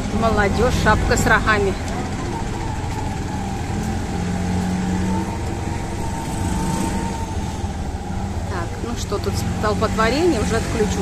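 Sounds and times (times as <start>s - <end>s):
auto-rickshaw engine running: 0.0s - 11.0s
road and traffic noise: 0.0s - 11.0s.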